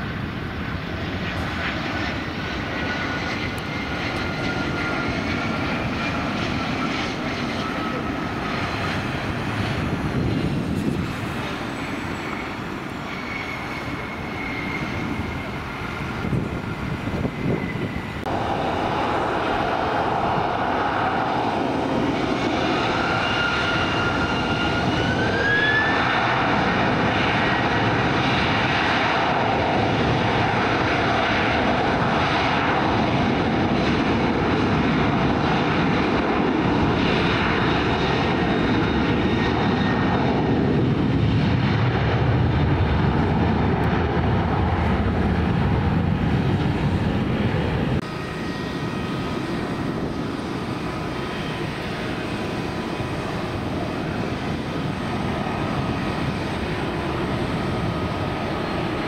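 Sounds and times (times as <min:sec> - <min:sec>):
aeroplane engines running: 0:00.0 - 0:59.0.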